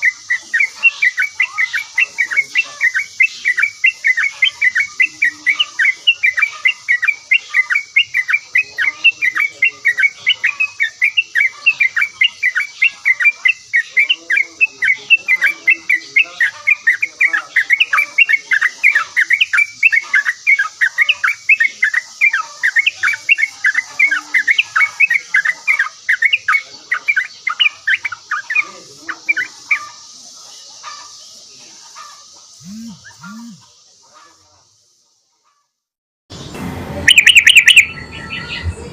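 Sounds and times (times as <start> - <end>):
bird chattering: 0.0 - 34.4, 37.1 - 38.0.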